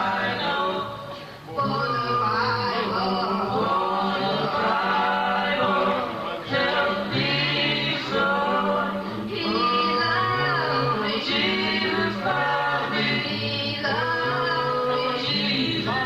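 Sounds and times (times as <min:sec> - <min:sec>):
male vocal group singing: 0:00.0 - 0:16.0.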